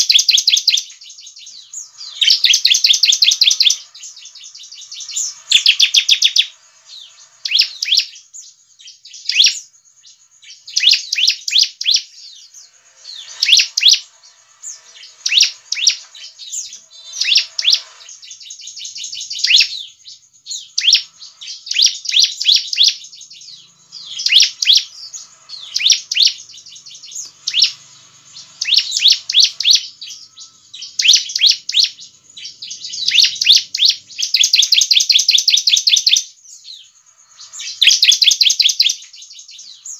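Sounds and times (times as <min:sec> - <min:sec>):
bird singing high trilled phrases: 0:00.0 - 0:39.9.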